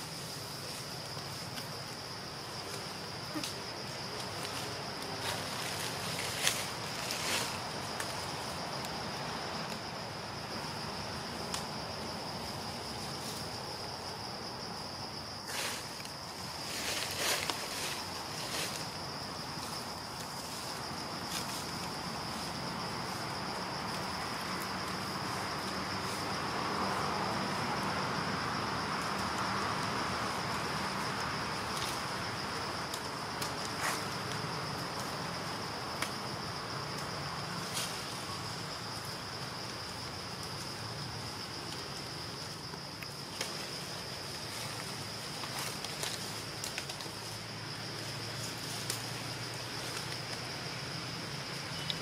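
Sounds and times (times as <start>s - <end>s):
insects droning high-pitched: 0.0s - 52.0s.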